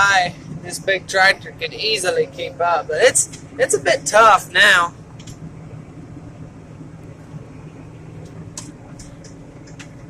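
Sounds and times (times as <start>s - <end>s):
tractor engine humming: 0.0s - 10.0s.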